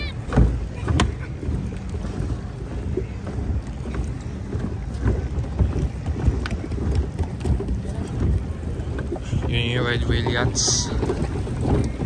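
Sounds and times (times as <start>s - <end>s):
distant voices: 0.0s - 12.0s
steady low rumble: 0.0s - 12.0s
wind on microphone: 0.0s - 12.0s.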